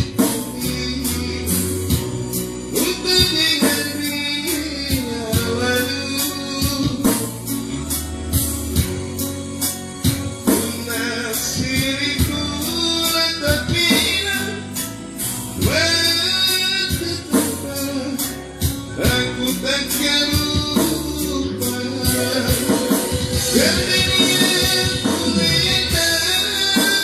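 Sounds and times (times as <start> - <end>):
steady percussion beat: 0.0 - 14.9, 18.6 - 27.0
person singing: 0.0 - 27.0.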